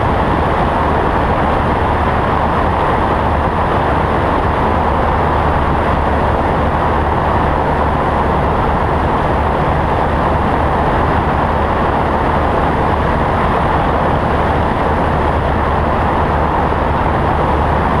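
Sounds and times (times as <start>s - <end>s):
propeller plane engine droning: 0.0s - 18.0s
rushing airflow: 0.0s - 18.0s.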